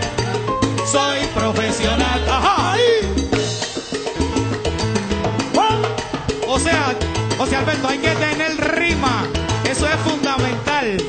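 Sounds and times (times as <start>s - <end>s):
pulsing bass line: 0.0s - 11.0s
salsa band music: 0.0s - 11.0s.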